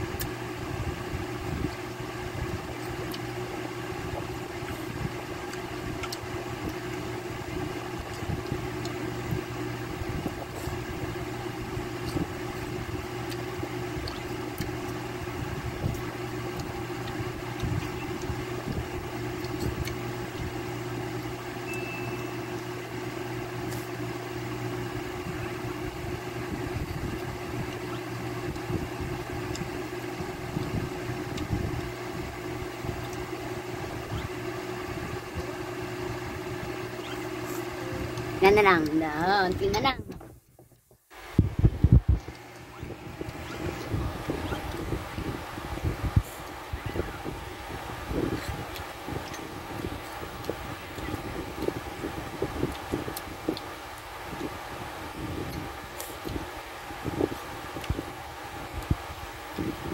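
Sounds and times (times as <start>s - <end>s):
electric fan motor humming: 0.0s - 59.9s.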